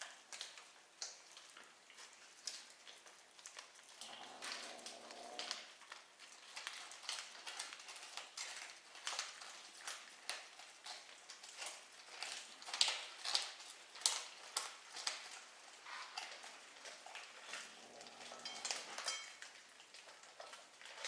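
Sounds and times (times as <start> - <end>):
kitten crunching food: 0.0 - 21.0.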